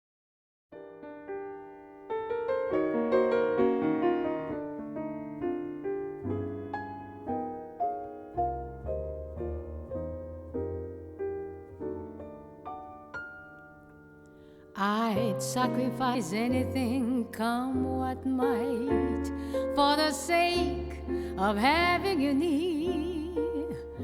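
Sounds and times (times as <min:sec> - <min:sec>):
piano notes: 0:00.8 - 0:24.0.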